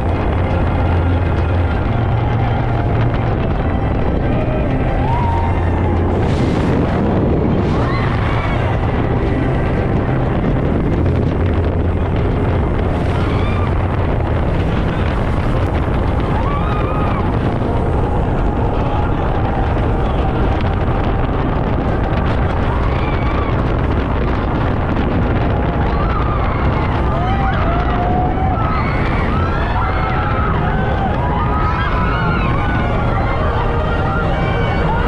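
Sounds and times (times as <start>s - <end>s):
speedboat engine drone: 0.0s - 35.0s
wind buffeting microphone: 0.0s - 35.0s.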